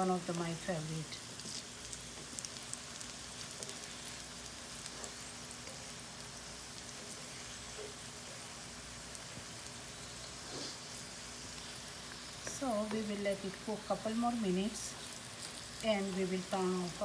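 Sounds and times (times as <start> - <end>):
chips frying in hot oil: 0.0 - 17.0.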